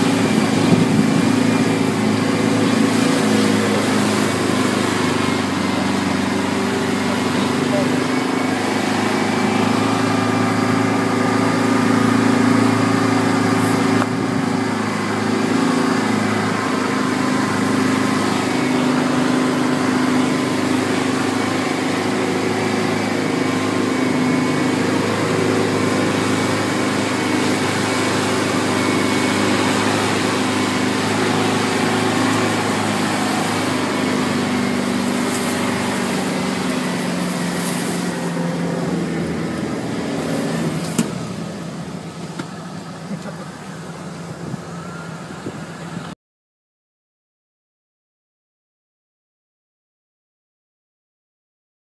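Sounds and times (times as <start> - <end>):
vehicle engine running: 0.0 - 46.2.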